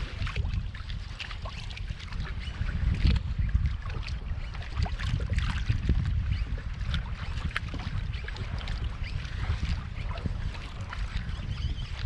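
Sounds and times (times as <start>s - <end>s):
water lapping against hull: 0.0s - 12.0s
wind buffeting microphone: 0.0s - 12.0s.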